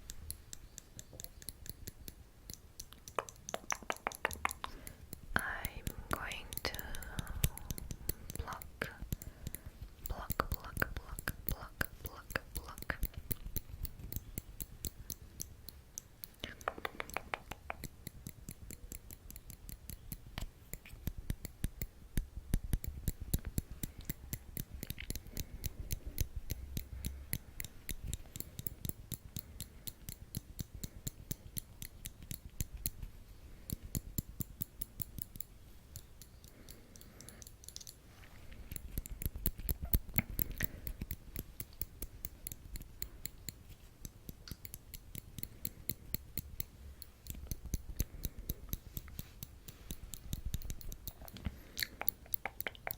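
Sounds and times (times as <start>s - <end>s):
metal tweezers clicking: 0.0s - 52.9s.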